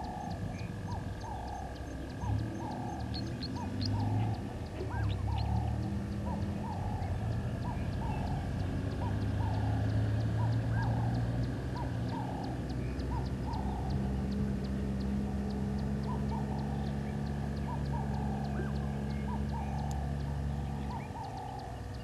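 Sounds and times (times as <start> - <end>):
frogs calling: 0.0 - 22.0
steady low hum: 0.0 - 22.0.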